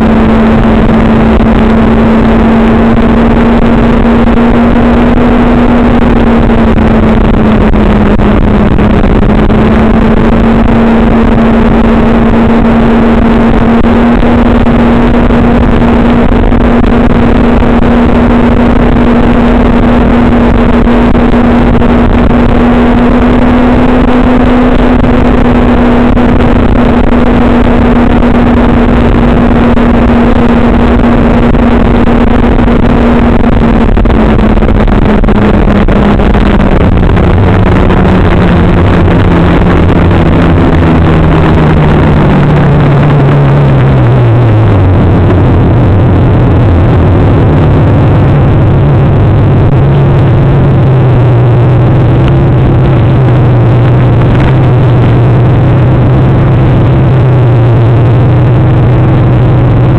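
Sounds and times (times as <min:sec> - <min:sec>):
dense steady noise: 0:00.0 - 0:59.9
vehicle engine running: 0:00.0 - 0:59.9.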